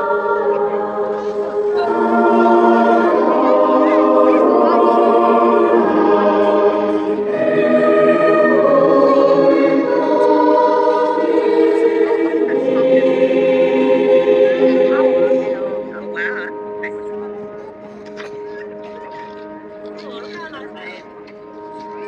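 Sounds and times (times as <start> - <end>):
choir singing held chords: 0.0 - 18.8.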